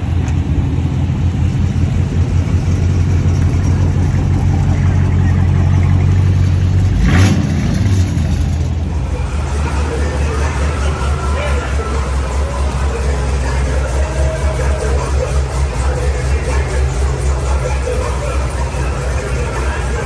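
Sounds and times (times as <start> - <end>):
car engine deep drone: 0.0 - 20.0.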